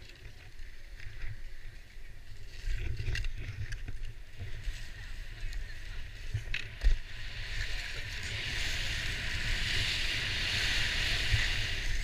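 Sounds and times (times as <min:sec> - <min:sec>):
skis scraping over snow: 0:00.0 - 0:12.0
wind rumbling on microphone: 0:00.0 - 0:12.0.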